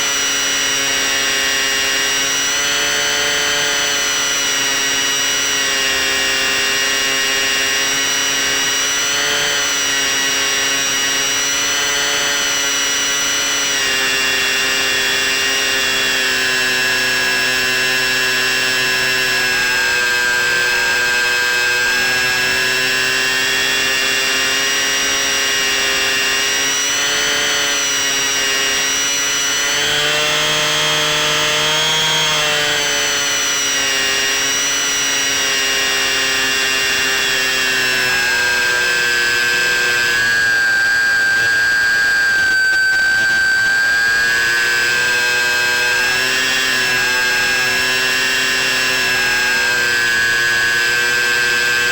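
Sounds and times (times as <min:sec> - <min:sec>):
model plane motor whining: 0:00.0 - 0:51.9.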